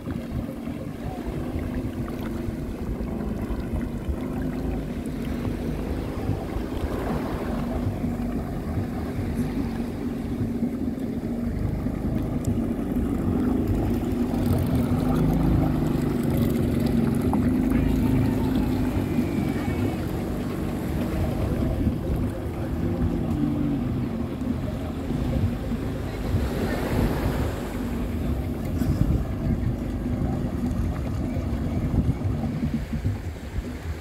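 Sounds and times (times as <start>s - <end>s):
churning water: 0.0s - 34.0s
jet ski engine running: 0.0s - 34.0s.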